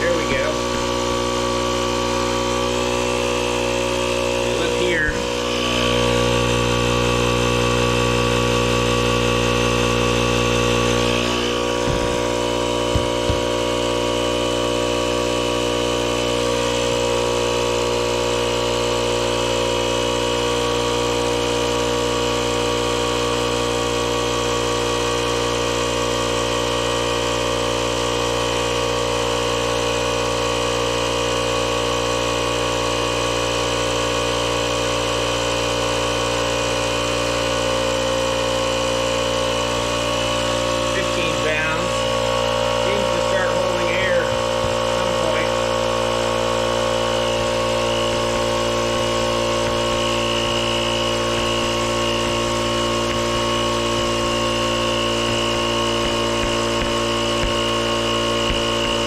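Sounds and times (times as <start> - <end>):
air compressor running: 0.0 - 59.0.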